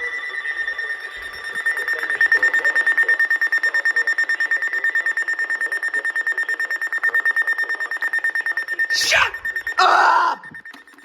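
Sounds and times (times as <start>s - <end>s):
rapid pulsing electronic beep: 0.0s - 11.0s.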